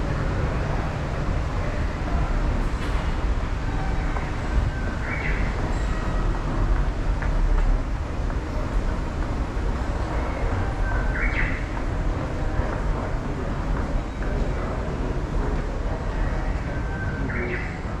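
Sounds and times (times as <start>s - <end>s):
subway station rumble: 0.0s - 18.0s.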